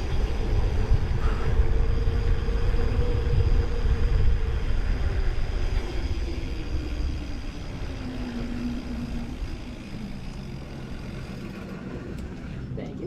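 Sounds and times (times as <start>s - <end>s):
faint hum falling in pitch: 0.0s - 13.0s
wind rushing over microphone: 0.0s - 13.0s.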